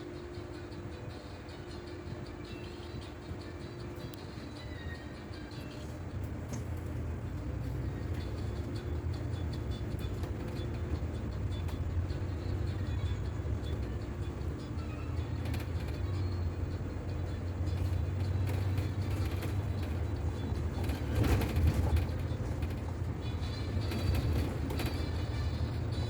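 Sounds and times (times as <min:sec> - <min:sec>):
bus engine drone: 0:00.0 - 0:26.0
rattles inside bus: 0:00.0 - 0:26.0
road noise: 0:00.0 - 0:26.0.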